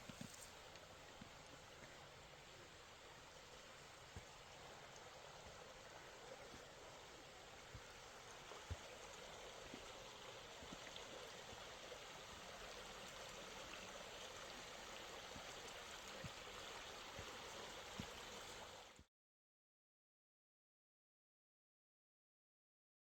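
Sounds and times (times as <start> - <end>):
creek water flowing: 0.0 - 19.1.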